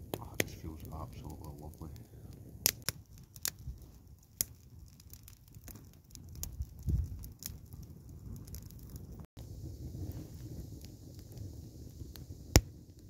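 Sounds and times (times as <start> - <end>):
campfire crackling: 0.0 - 13.0
sharp pops of fire: 0.0 - 13.0.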